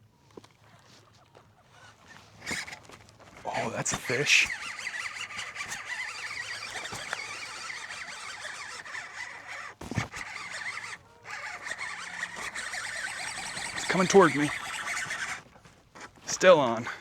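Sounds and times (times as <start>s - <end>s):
fishing reel whirring: 0.3s - 17.0s.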